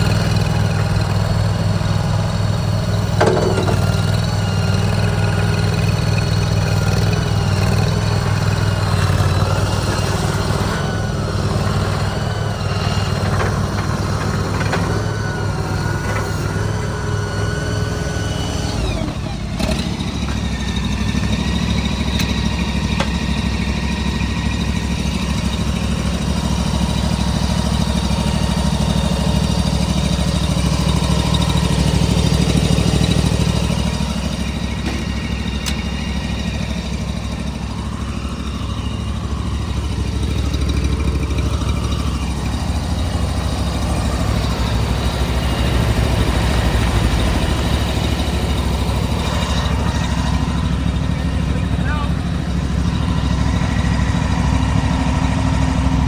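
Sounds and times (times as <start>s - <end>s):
loader gas engine running: 0.0s - 56.0s.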